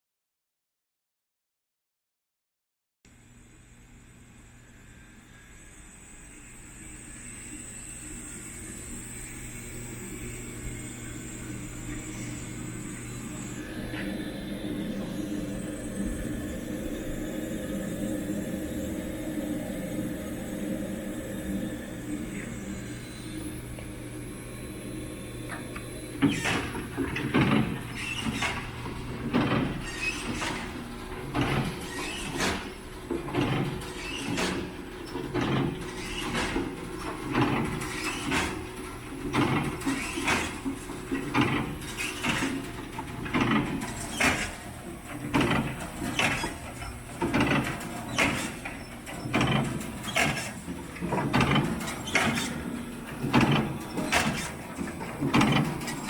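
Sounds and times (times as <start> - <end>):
machine hum: 3.1 - 56.0
rhythmic mechanical clatter: 5.6 - 56.0.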